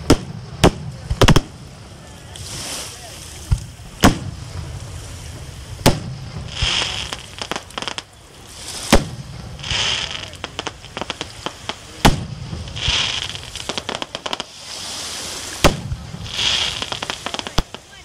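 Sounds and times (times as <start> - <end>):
fireworks bangs: 0.0 - 18.0
fireworks crackling: 0.0 - 18.0
fireworks hissing: 0.0 - 18.0.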